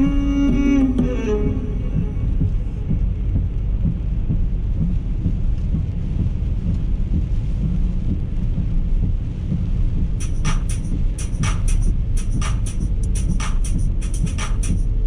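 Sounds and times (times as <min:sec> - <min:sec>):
car engine rumble: 0:00.0 - 0:15.0
tyres on wet road: 0:00.0 - 0:15.0.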